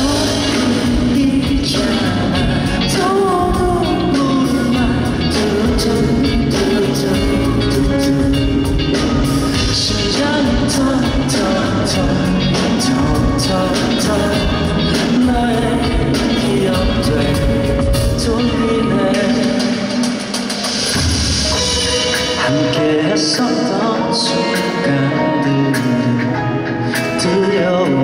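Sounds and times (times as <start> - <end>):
person singing: 0.0 - 20.6, 21.4 - 28.0
band with steady drum beat: 0.0 - 28.0.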